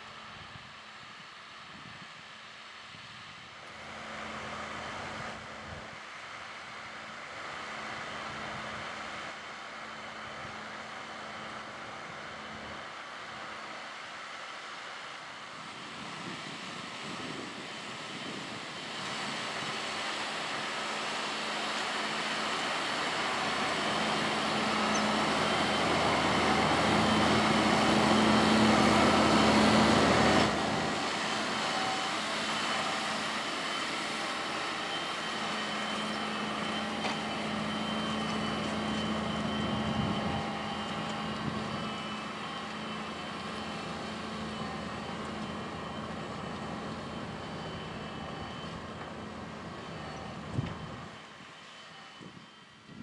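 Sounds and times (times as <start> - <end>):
tractor diesel engine running: 3.7 - 53.0.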